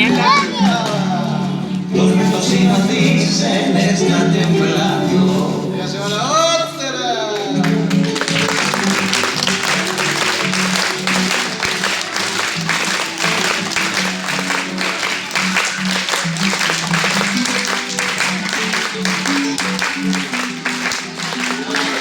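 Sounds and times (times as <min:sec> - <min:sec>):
strummed folk guitars: 0:00.0 - 0:22.0.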